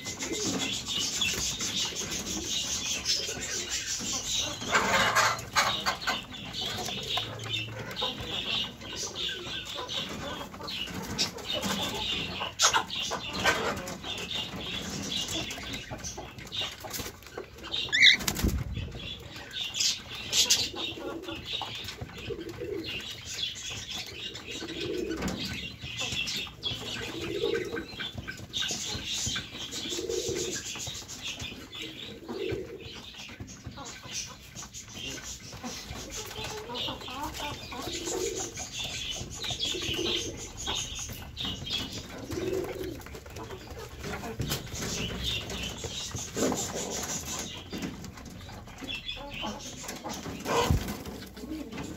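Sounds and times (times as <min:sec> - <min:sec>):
pigeon cooing: 0:00.0 - 0:51.9.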